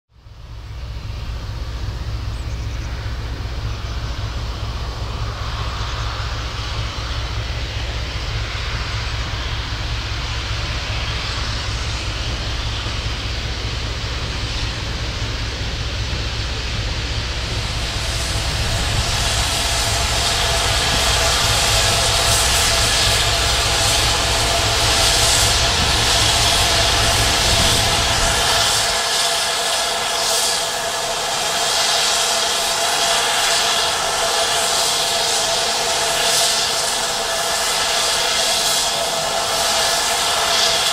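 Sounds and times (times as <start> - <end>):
steam train rolling in: 0.1 - 40.9
steam hiss: 0.4 - 40.9.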